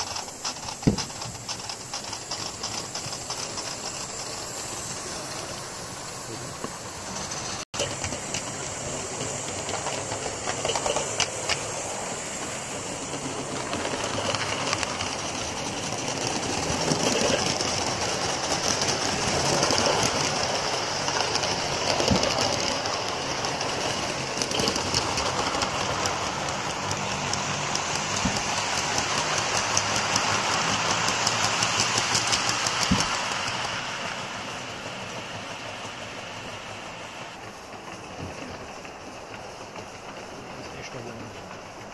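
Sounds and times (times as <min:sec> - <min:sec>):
model train wheels clattering: 0:00.0 - 0:41.9.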